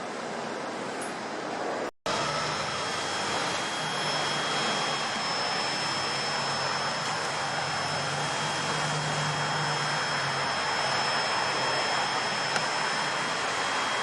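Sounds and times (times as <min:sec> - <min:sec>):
vehicle engine hum: 0:02.1 - 0:14.0.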